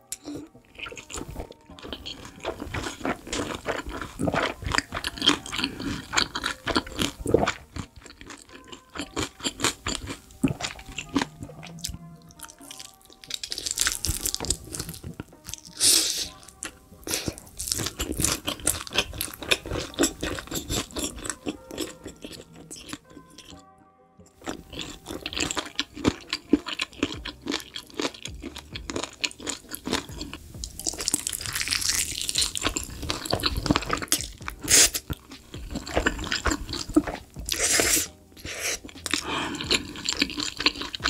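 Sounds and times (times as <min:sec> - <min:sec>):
background music: 0:00.0 - 0:41.0
crunchy bites and chewing: 0:00.1 - 0:23.6, 0:24.4 - 0:41.0.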